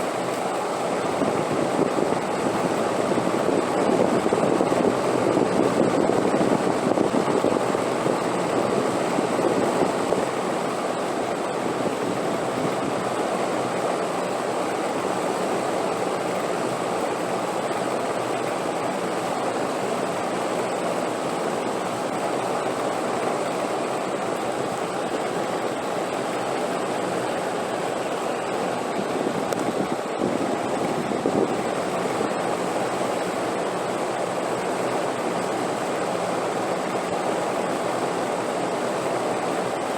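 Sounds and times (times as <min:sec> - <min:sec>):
rushing wind: 0:00.0 - 0:39.9.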